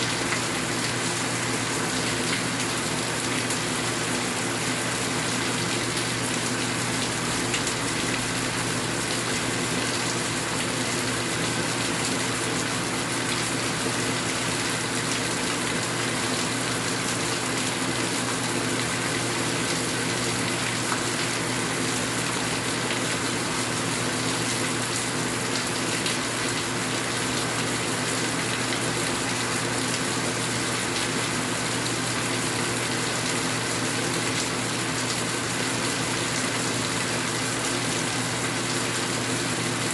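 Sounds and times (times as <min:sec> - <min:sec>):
heavy rain: 0:00.2 - 0:39.9.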